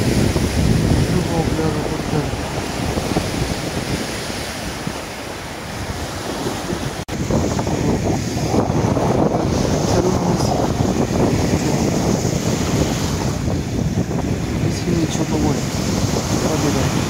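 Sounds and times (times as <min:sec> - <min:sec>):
surf breaking on sandy shore: 0:00.0 - 0:17.0
wind buffeting microphone: 0:00.0 - 0:17.0.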